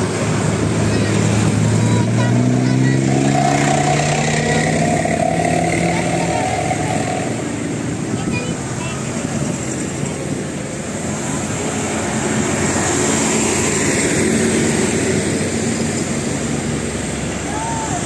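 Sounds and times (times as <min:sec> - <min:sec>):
passing vehicle engine and tyres: 0:00.0 - 0:18.0.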